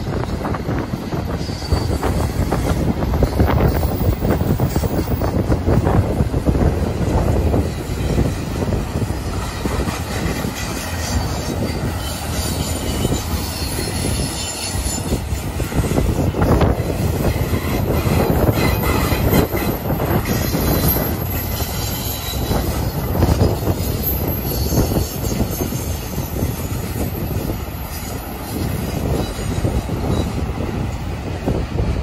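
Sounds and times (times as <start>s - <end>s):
freight train wheels rumbling on rails: 0.0s - 32.0s
high wheel squeals: 0.1s - 6.0s, 6.6s - 31.0s.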